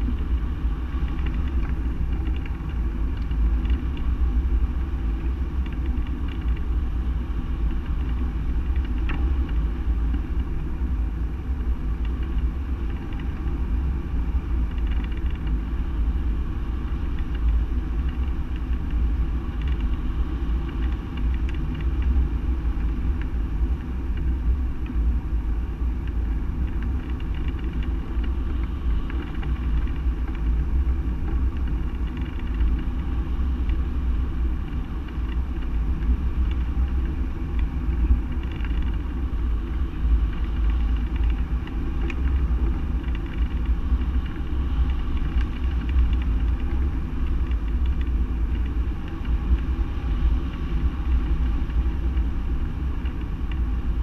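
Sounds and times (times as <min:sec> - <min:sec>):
wind rumbling over microphone: 0:00.0 - 0:54.0.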